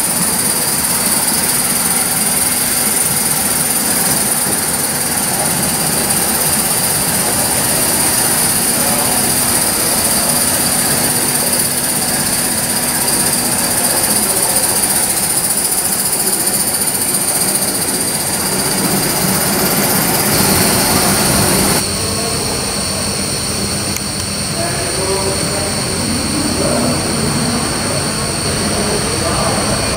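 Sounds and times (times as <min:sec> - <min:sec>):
model steam locomotive hissing: 0:00.0 - 0:29.9
thin high steady tone: 0:00.0 - 0:29.9.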